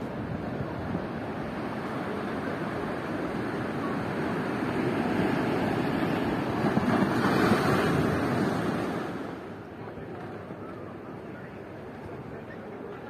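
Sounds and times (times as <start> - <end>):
ocean wave: 0.0 - 13.0.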